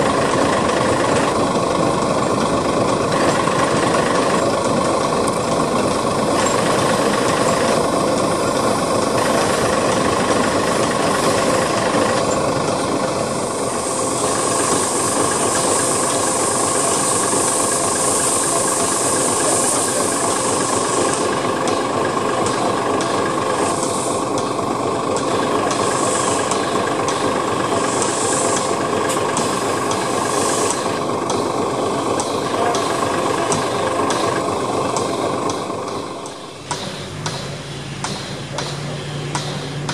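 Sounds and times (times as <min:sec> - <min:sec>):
locomotive clanks: 0:00.0 - 0:39.9
steady mechanical hum: 0:00.0 - 0:39.9
steam hissing: 0:00.0 - 0:39.9
steam locomotive exhaust beats: 0:00.0 - 0:39.9.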